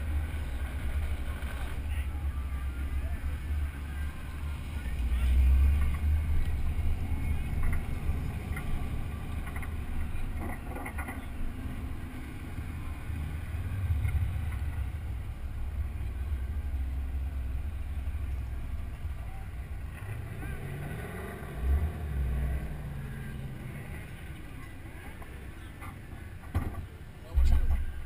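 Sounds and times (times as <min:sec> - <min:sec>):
car engine running at low revs: 0:00.0 - 0:28.0.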